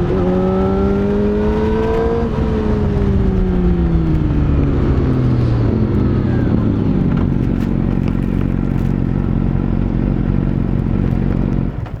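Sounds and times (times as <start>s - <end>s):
motorcycle engine slowing: 0.0s - 12.0s.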